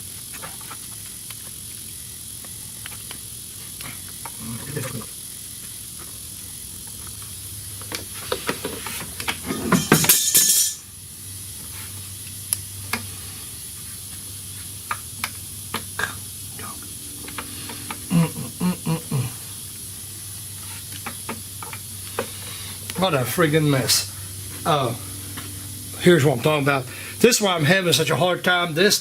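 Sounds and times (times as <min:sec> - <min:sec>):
rush of hissing noise: 0:00.0 - 0:29.0.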